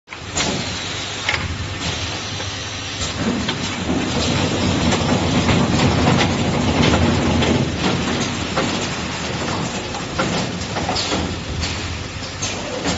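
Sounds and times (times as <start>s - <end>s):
assembly line mechanical hum: 0.1s - 12.9s
pneumatic clicks and clacks: 0.1s - 12.9s.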